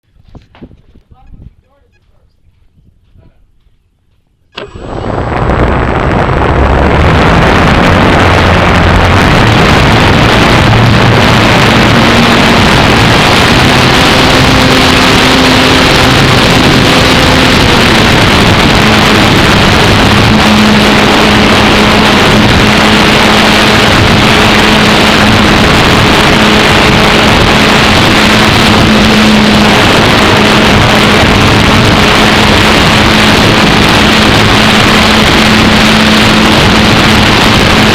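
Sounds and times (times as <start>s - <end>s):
wind rush over microphone: 0.0s - 3.5s, 4.4s - 37.9s
model plane electric motor: 4.6s - 37.9s.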